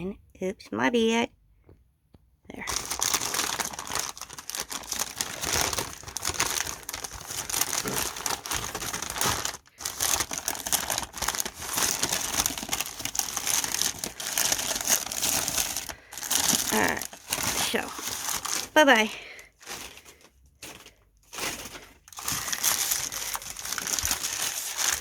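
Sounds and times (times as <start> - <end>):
paper crinkling and rustling: 2.6 - 25.0.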